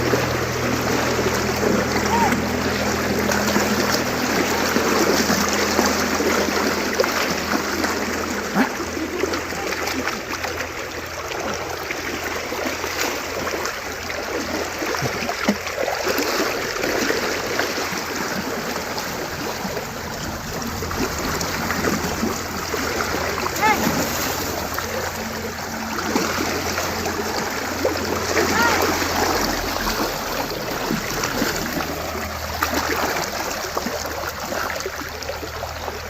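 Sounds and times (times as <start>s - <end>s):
light water splashes: 0.0s - 36.0s
river water running: 0.0s - 36.0s.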